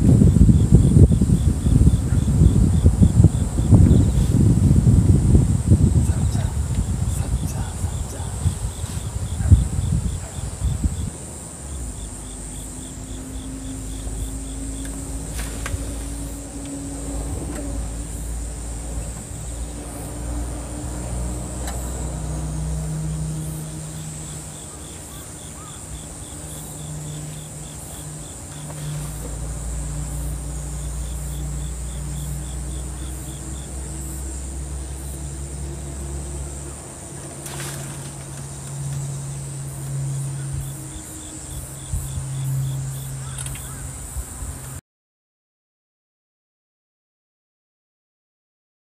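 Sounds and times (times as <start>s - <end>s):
insects chirping in trills: 0.0s - 44.8s
low engine hum: 0.0s - 44.8s.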